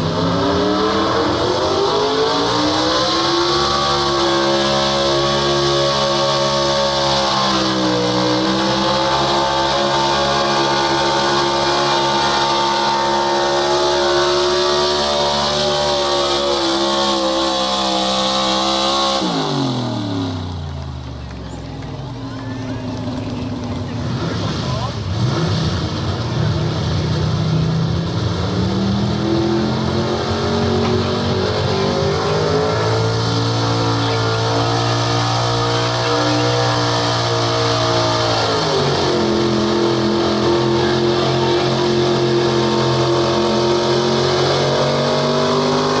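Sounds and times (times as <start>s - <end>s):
truck engine at full throttle: 0.0s - 46.0s.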